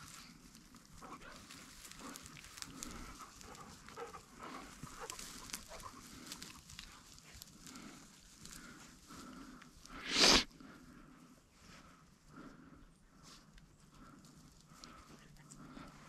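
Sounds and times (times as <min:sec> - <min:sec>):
footsteps in dry grass: 0:00.0 - 0:16.0.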